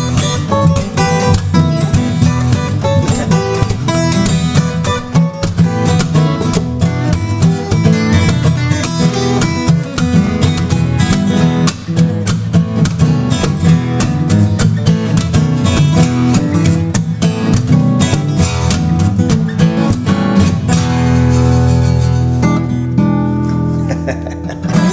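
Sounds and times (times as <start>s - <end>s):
guitar playing blues: 0.0s - 24.9s.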